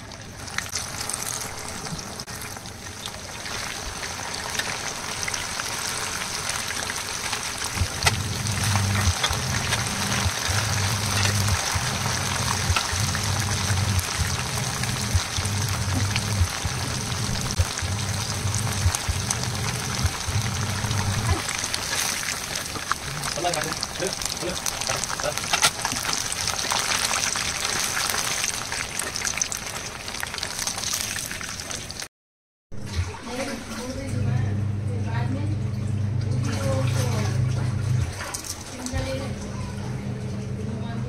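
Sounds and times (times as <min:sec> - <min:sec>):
chicken deep-frying in oil: 0:00.0 - 0:32.1, 0:32.8 - 0:39.9.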